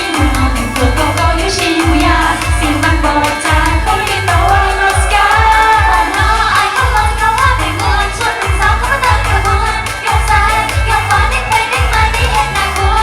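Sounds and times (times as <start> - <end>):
heavy bass drum beat: 0.0 - 13.0
woman singing: 0.0 - 13.0.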